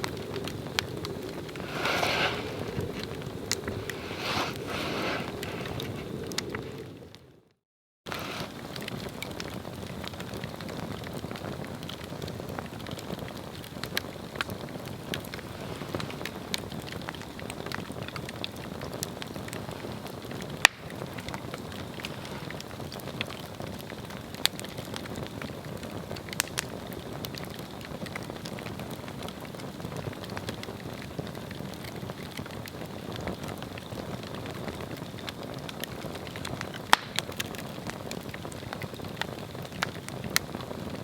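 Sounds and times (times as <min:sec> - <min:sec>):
fire popping: 0:00.0 - 0:41.0
log fire burning: 0:00.0 - 0:41.0.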